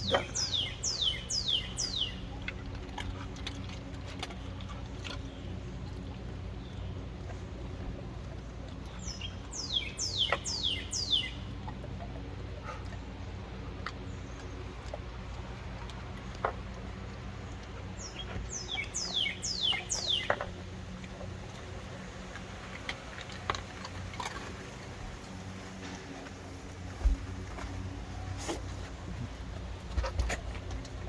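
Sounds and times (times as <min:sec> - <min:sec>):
songbird singing: 0:00.0 - 0:26.3.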